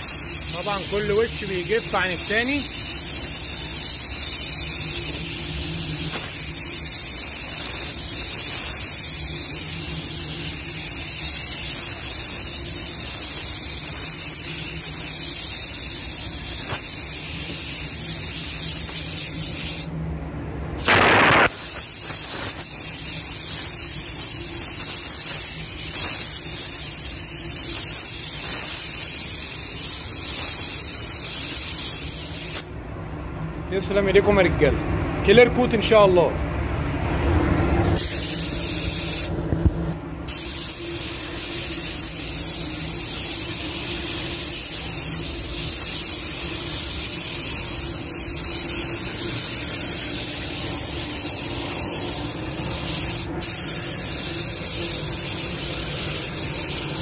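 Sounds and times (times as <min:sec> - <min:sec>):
paint spray gun hissing: 0:00.0 - 0:19.9, 0:20.8 - 0:32.7, 0:38.0 - 0:39.4, 0:40.3 - 0:57.0.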